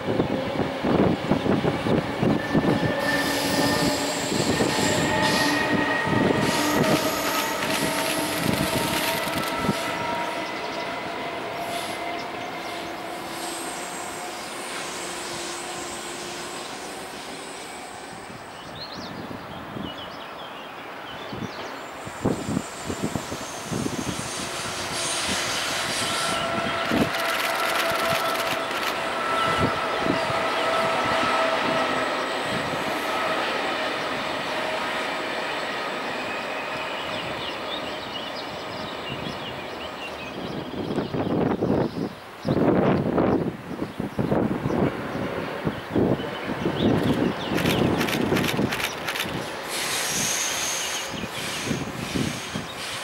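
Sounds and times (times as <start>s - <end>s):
distant train rushing: 0.0s - 19.9s, 20.8s - 53.0s.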